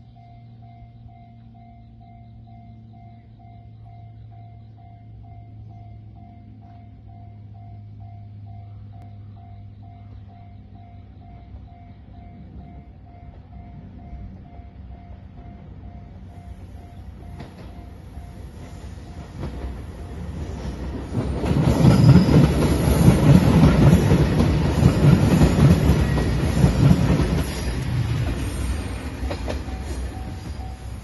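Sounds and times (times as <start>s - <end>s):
diesel train passing: 0.0s - 31.0s
level-crossing bell dinging: 0.0s - 31.0s.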